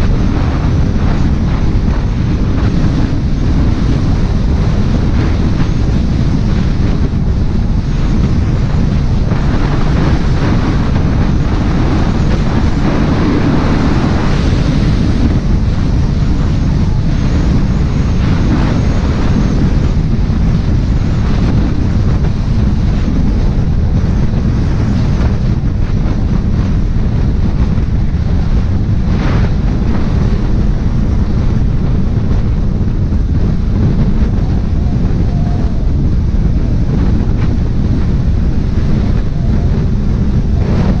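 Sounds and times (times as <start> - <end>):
deep rumble: 0.0 - 41.0
wind buffeting microphone: 0.0 - 41.0.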